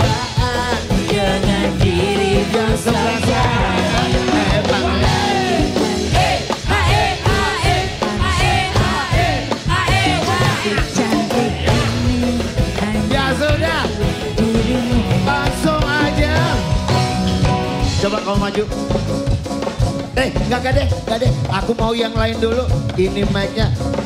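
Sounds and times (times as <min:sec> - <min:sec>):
live band music with drums and bass: 0:00.0 - 0:24.0.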